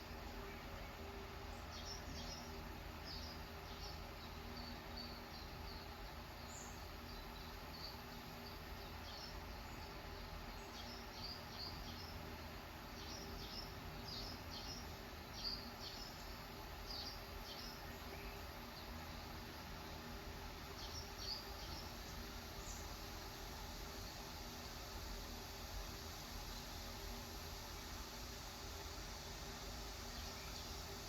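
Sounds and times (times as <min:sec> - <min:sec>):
low background hum: 0:00.0 - 0:31.0
small birds chirping: 0:00.2 - 0:31.0.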